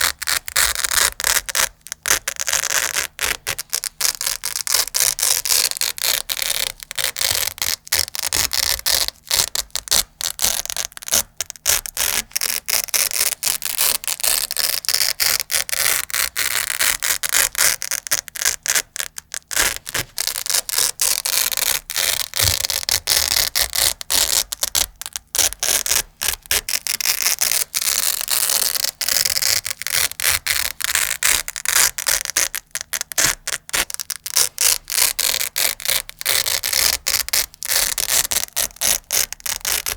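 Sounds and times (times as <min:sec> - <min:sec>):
velcro ripping apart: 0:00.0 - 0:39.9.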